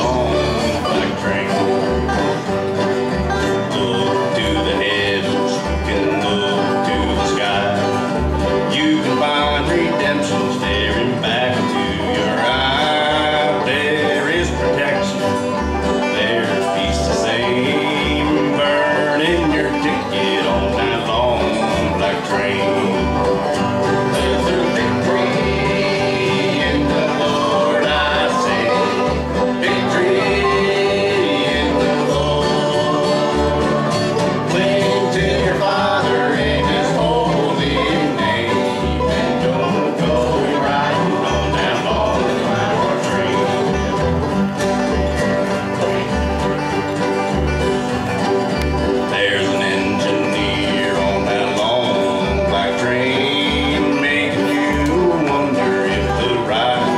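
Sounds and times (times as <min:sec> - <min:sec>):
banjo: 0:00.0 - 0:56.9
bluegrass band playing: 0:00.0 - 0:56.9
dobro: 0:00.0 - 0:56.9
fiddle: 0:00.0 - 0:56.9
strummed acoustic guitar: 0:00.0 - 0:56.9
upright bass: 0:00.0 - 0:56.9.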